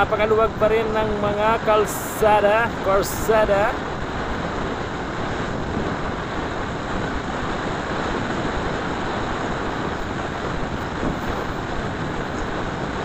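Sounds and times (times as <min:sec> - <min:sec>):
road noise: 0:00.0 - 0:13.0
wind rushing on microphone: 0:00.0 - 0:13.0.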